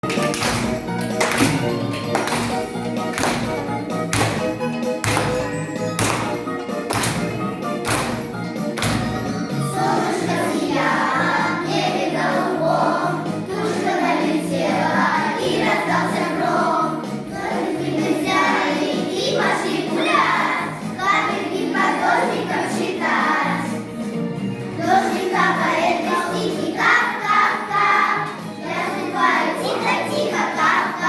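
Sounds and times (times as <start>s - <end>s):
children's song with singing: 0.1s - 31.0s.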